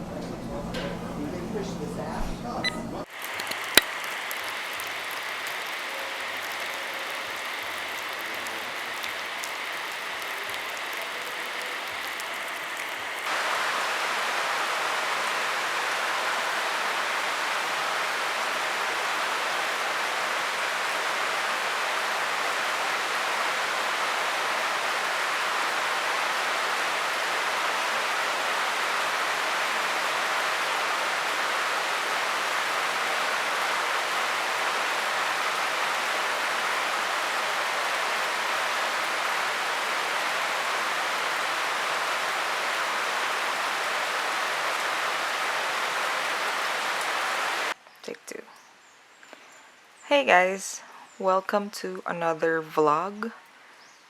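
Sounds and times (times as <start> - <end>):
steady rain falling: 3.0 - 51.1.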